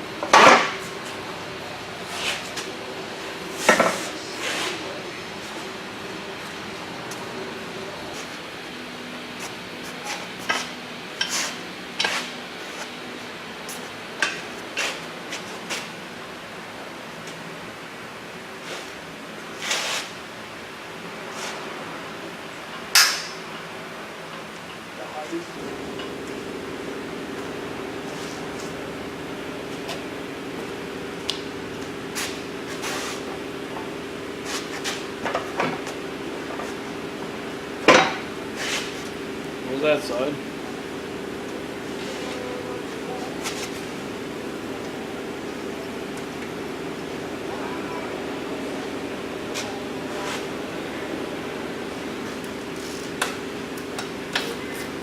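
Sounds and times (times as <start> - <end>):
low shop hum: 0.0 - 55.0.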